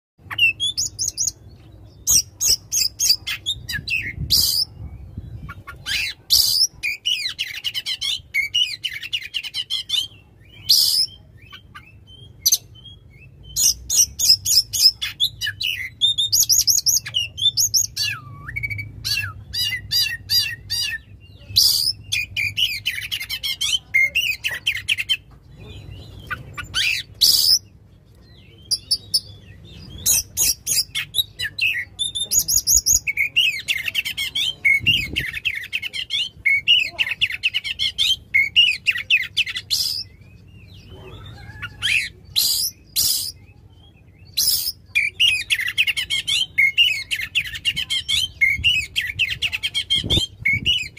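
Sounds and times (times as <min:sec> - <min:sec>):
bird singing whistles and trills: 0:00.3 - 0:25.2, 0:28.3 - 0:50.9.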